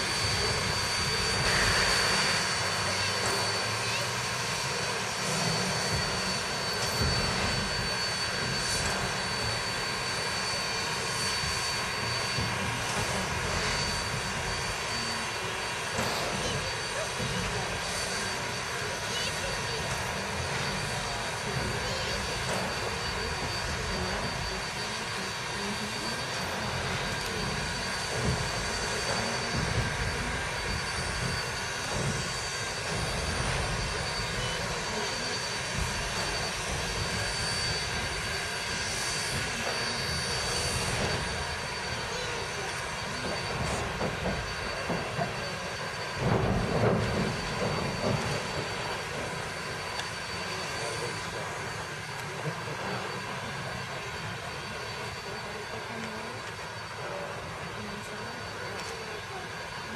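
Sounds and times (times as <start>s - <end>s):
steam locomotive hissing and rumbling: 0.0s - 59.9s.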